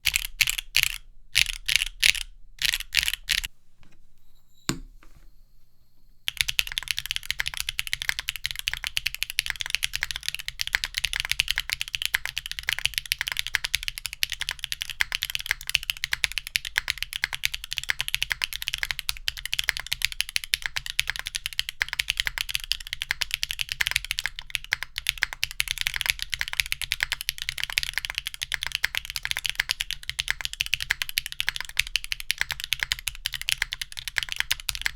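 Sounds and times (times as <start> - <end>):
mechanical keyboard typing: 0.0 - 3.5, 6.3 - 34.9.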